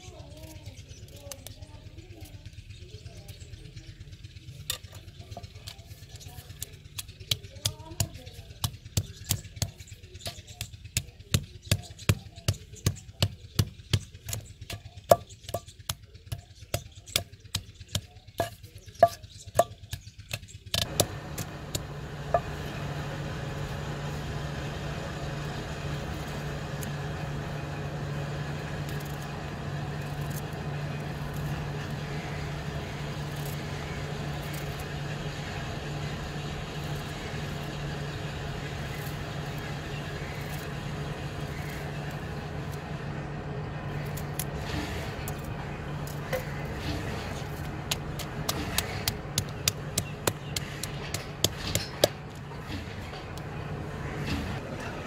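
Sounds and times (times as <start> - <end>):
low engine hum: 0.0 - 55.0.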